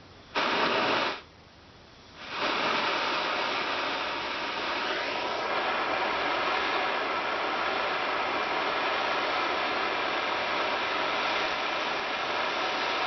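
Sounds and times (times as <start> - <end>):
propane torch flame hissing: 0.0 - 1.3, 2.1 - 13.0.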